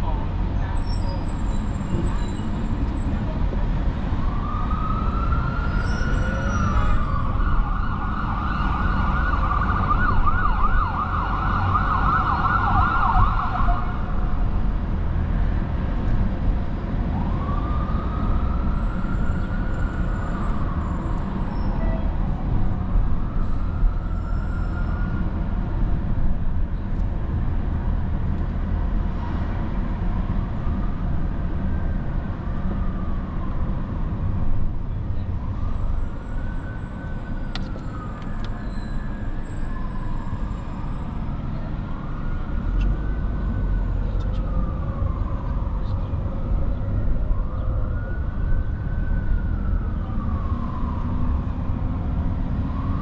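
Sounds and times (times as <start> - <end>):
city traffic rumble: 0.0 - 53.0
emergency vehicle siren: 0.0 - 53.0.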